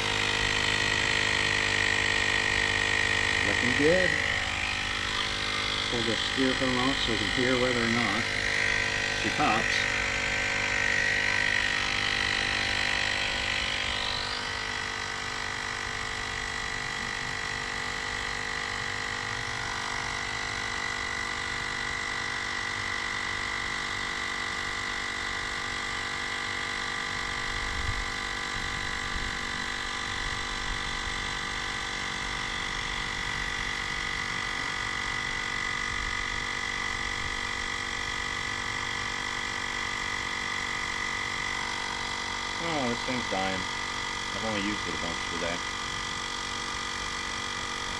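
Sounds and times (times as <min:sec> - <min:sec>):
electric tyre inflator motor whine: 0:00.0 - 0:47.9.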